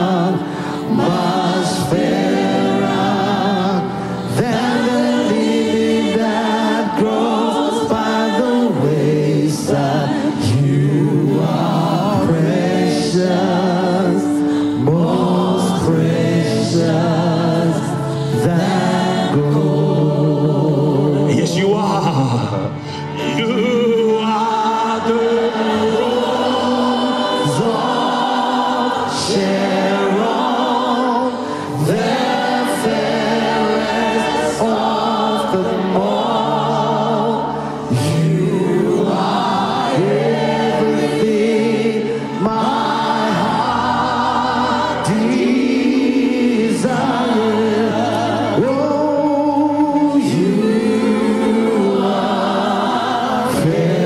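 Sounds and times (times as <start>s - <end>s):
choir singing gospel song: 0.0s - 54.0s
keyboards: 0.0s - 54.0s.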